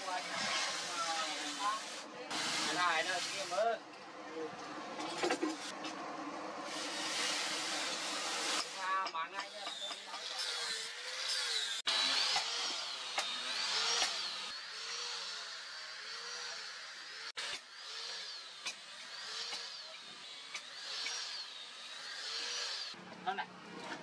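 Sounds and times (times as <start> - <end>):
angle grinder sanding steel: 0.0 - 3.7, 6.6 - 23.0.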